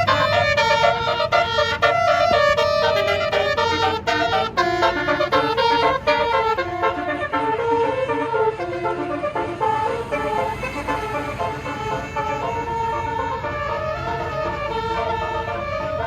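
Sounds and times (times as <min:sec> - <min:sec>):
bus engine running: 0:00.0 - 0:16.0
musical air horn melody: 0:00.0 - 0:16.0.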